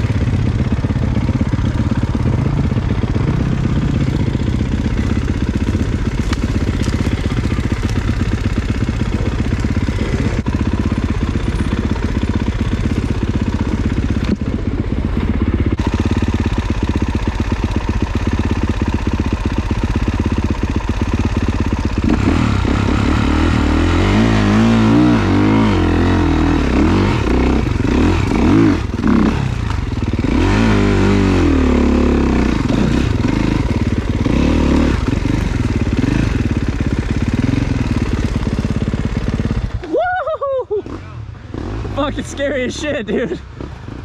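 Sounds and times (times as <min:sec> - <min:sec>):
dirt bike engine revving: 0:00.0 - 0:40.0, 0:40.7 - 0:44.0.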